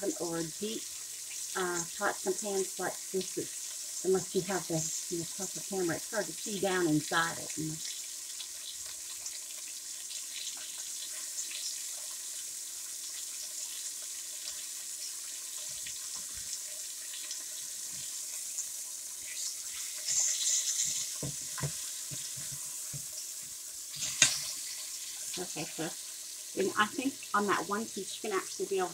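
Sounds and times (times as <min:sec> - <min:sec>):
chicken sizzling in a pan: 0:00.0 - 0:28.9.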